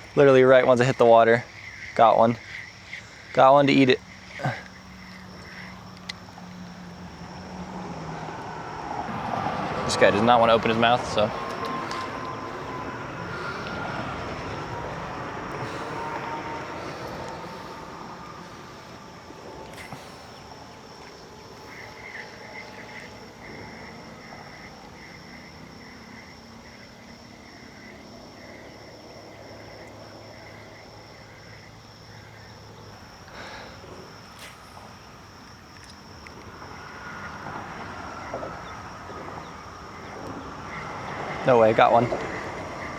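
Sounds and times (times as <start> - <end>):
high insect buzz: 0.8 - 41.4.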